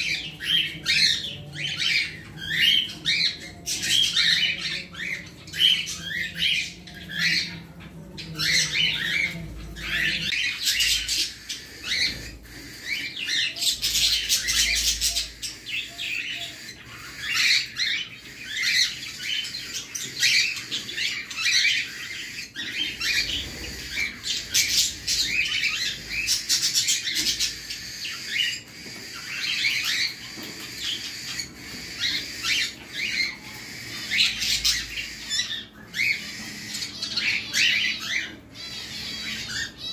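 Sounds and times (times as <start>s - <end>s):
cockatiels chirping and squawking: 0.0s - 39.9s.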